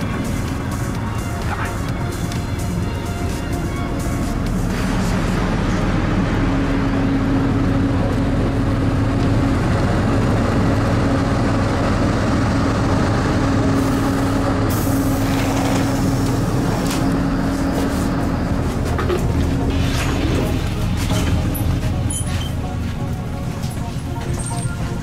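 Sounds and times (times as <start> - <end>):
diesel engine idling: 0.0 - 25.0
high whine: 0.0 - 25.0.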